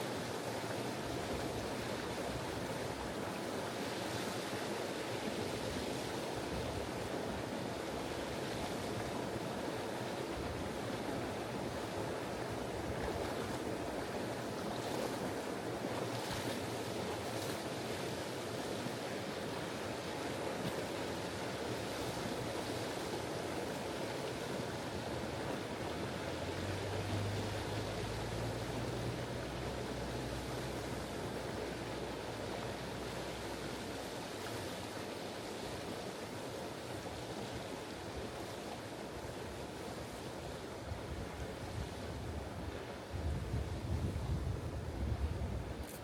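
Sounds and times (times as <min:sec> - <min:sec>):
river rushing over rocks: 0:00.0 - 0:46.0
faint water splashes: 0:00.1 - 0:46.0.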